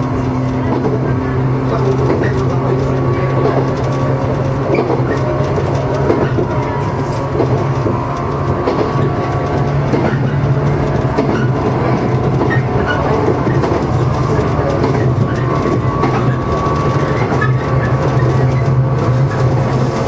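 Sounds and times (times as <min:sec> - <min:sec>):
electric train hum and rumble: 0:00.0 - 0:20.0
wheels clicking over rails: 0:00.0 - 0:20.0.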